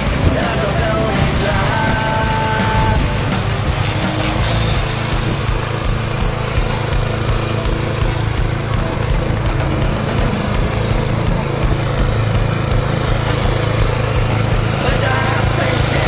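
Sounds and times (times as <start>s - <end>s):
snow blower engine running: 0.0s - 16.0s.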